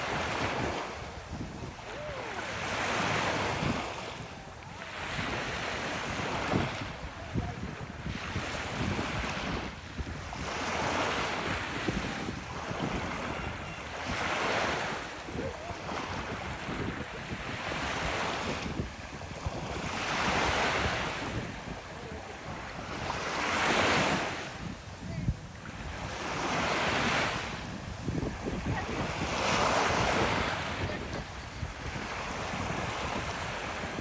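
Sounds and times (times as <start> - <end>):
ocean waves breaking on beach: 0.0 - 34.0
wind buffeting microphone: 0.0 - 34.0.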